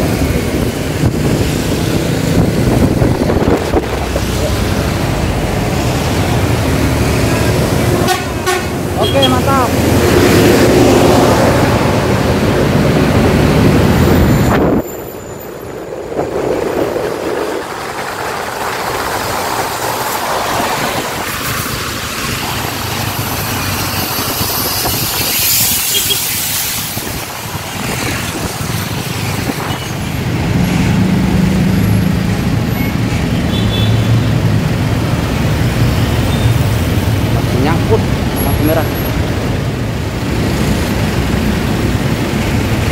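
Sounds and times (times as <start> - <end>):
traffic on wet road: 0.0 - 42.9.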